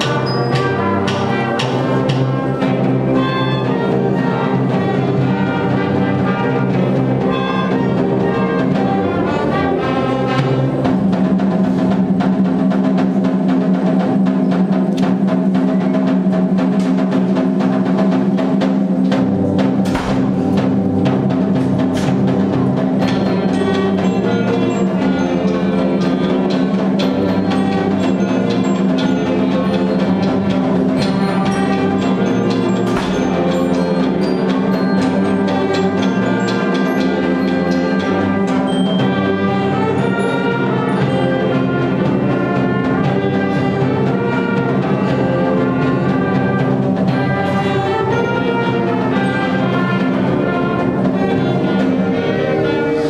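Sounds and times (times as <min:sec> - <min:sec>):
concert band playing: 0:00.0 - 0:53.0
percussion strikes: 0:00.0 - 0:53.0.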